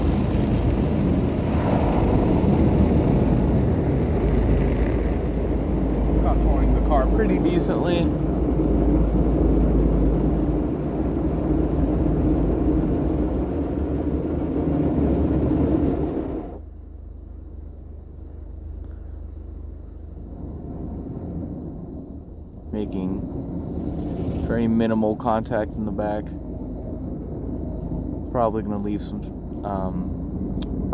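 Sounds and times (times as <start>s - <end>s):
car wash brush rushing: 0.0s - 16.6s, 19.4s - 30.9s
low machinery hum: 0.0s - 30.9s.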